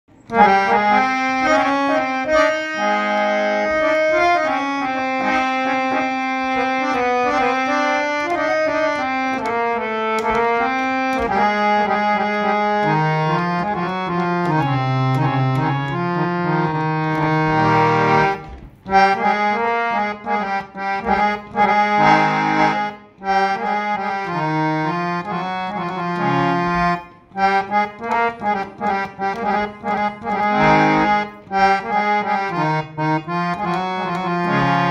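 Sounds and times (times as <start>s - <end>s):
harmonium melody over held notes: 0.1s - 34.9s.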